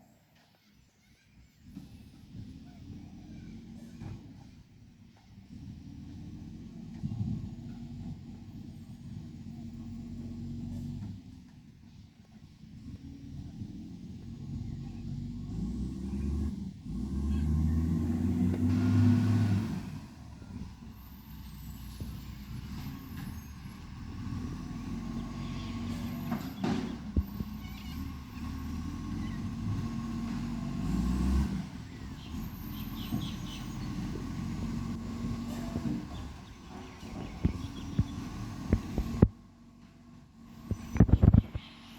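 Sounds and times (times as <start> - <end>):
garbage truck diesel engine revving: 1.6 - 41.9.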